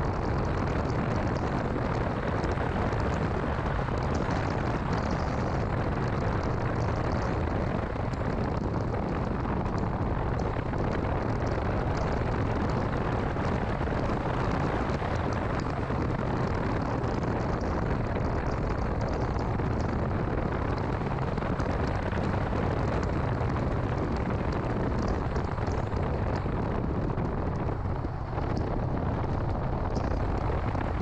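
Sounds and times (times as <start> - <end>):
car engine and road noise: 0.0 - 31.0
faint ticks: 0.1 - 27.7.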